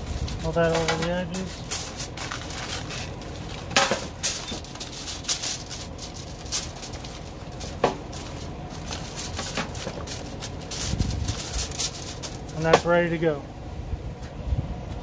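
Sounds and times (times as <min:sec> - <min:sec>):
aluminium foil crinkling: 0:00.0 - 0:12.9.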